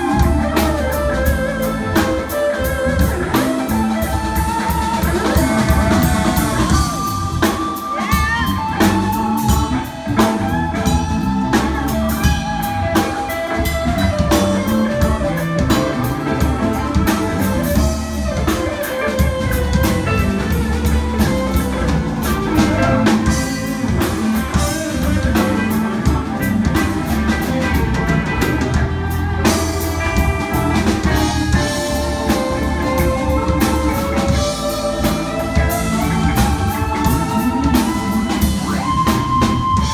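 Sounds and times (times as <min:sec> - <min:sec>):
bass guitar: 0:00.0 - 0:39.9
drum kit beat: 0:00.0 - 0:39.9
electric guitar lead: 0:00.0 - 0:39.9.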